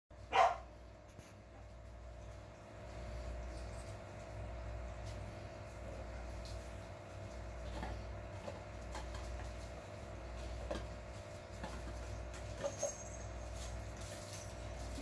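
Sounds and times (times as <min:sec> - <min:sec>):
steady low hum: 0:00.1 - 0:15.0
small paws pattering and clicking: 0:01.0 - 0:15.0.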